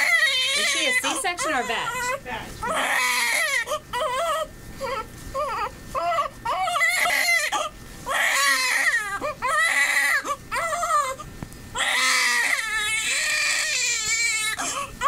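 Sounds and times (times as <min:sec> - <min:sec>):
newborn baby crying: 0:00.0 - 0:11.2, 0:11.8 - 0:15.0.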